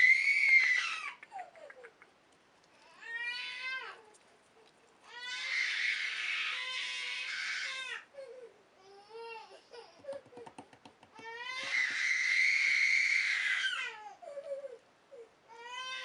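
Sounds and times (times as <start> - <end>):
high-pitched wailing cries: 0.0 - 1.9, 2.8 - 4.1, 5.1 - 10.3, 11.2 - 16.0.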